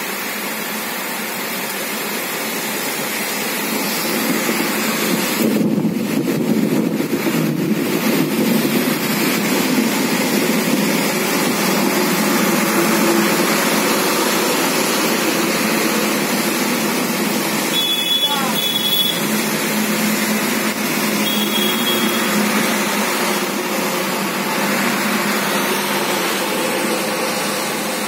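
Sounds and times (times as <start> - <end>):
heavy rain in strong wind: 0.0 - 28.0.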